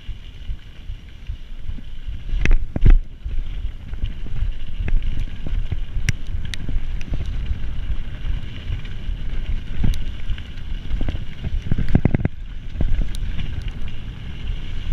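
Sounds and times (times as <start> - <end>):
bike rattling and knocking: 0.0 - 14.9
wind buffeting microphone: 0.0 - 14.9.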